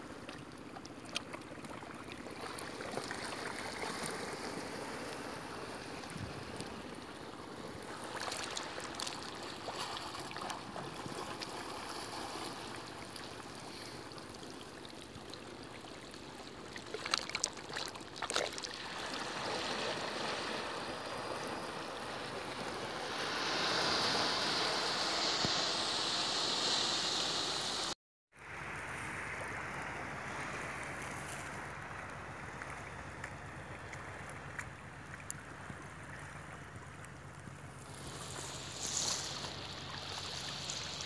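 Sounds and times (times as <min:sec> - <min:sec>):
waves lapping against rocks: 0:00.0 - 0:28.0, 0:28.9 - 0:41.0.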